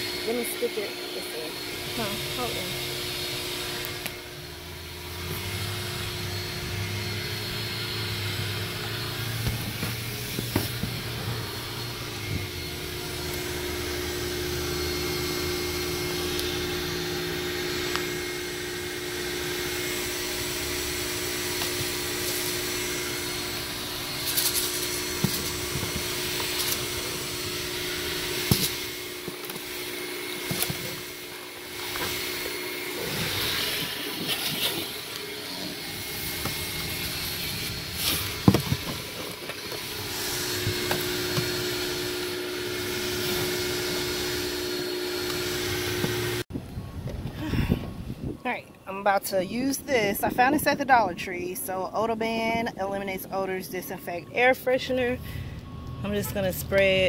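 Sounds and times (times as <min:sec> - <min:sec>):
vacuum cleaner motor whine: 0:00.0 - 0:49.0, 0:49.6 - 0:57.0.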